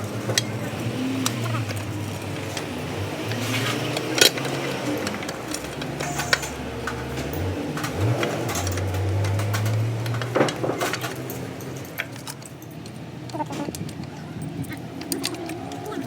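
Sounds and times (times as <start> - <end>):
metal clinks and knocks: 0.0 - 16.0.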